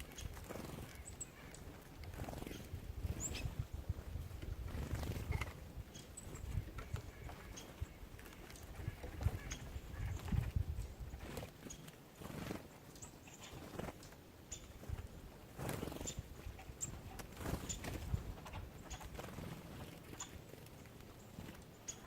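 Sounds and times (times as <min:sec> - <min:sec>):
small birds chip calls: 0:00.0 - 0:22.0.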